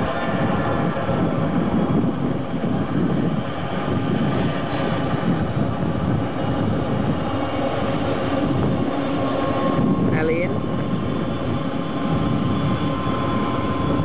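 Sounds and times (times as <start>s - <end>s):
helicopter rotor beat: 0.0s - 14.0s
turbine engine whine: 0.0s - 14.0s.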